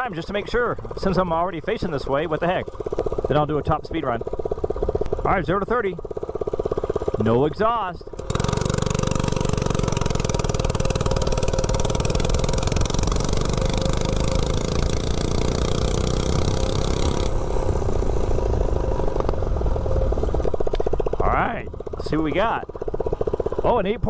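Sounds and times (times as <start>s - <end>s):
mini bike engine accelerating: 0.0s - 24.0s.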